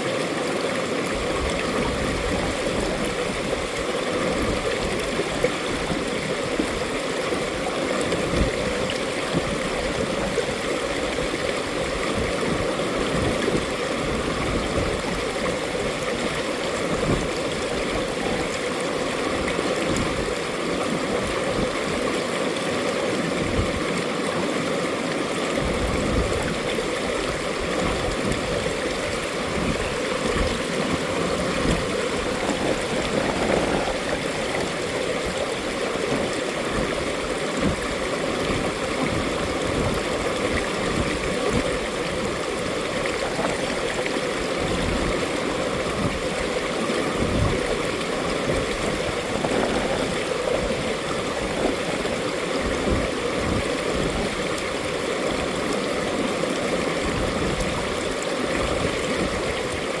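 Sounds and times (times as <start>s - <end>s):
stream rushing and gurgling: 0.0s - 60.0s.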